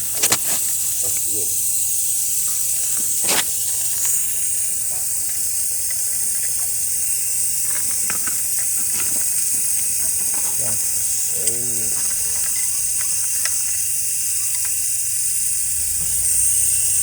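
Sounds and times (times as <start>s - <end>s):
water hissing from pipe: 0.0s - 17.0s.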